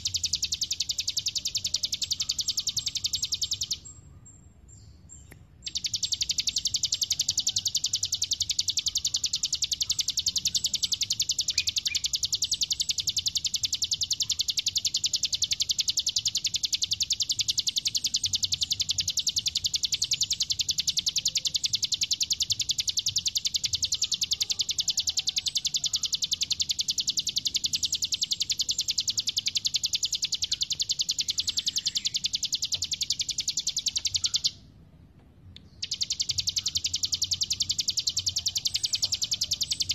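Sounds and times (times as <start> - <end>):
songbird trilling: 0.0 - 4.1, 4.7 - 34.7, 35.6 - 39.9.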